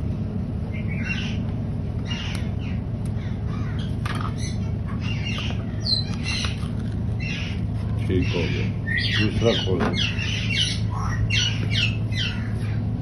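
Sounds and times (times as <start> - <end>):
steady low hum: 0.0 - 13.0
parrots squawking: 0.7 - 13.0.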